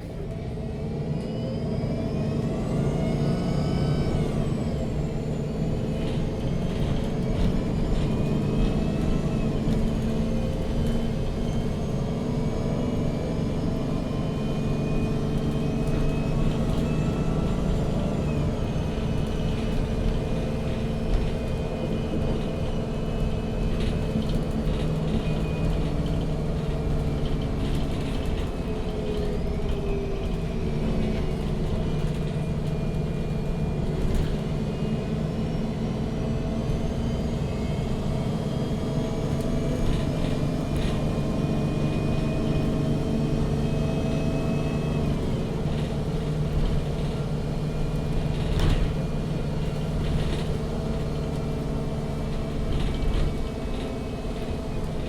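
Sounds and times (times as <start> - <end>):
bus engine rumble and whine: 0.0 - 55.0.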